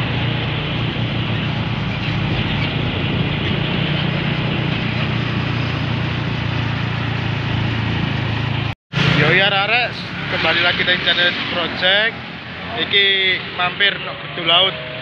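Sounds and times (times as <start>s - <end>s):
trucks driving on highway: 0.0s - 15.0s.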